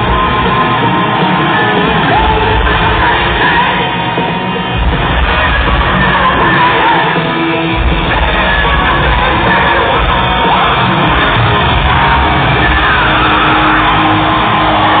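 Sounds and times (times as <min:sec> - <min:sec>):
crowd yelling: 0:00.0 - 0:15.0
live rock band playing: 0:00.0 - 0:15.0.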